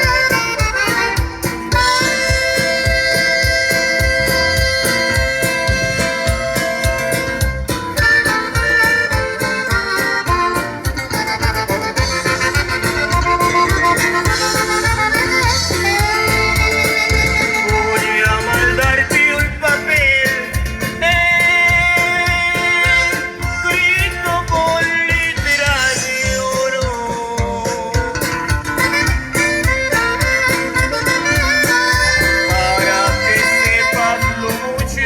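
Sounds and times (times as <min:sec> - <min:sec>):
drums beating: 0:00.0 - 0:35.0
live band playing: 0:00.0 - 0:35.0.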